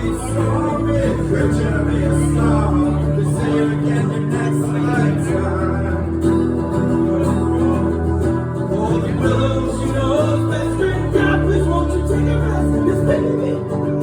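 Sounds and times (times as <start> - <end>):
live acoustic band with guitar: 0.0 - 14.0.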